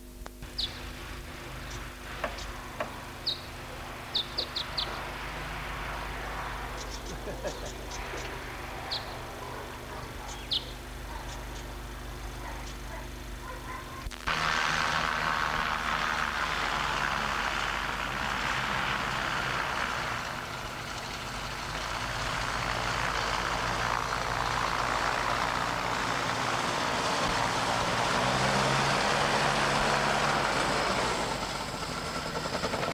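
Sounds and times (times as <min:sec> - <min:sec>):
propeller engine running: 0:00.0 - 0:32.9.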